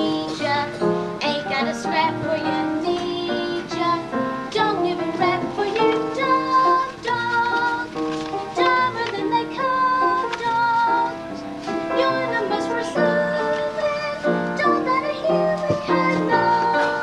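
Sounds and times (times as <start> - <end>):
child singing: 0.0 - 11.3, 11.9 - 17.0
instrumental accompaniment: 0.0 - 17.0.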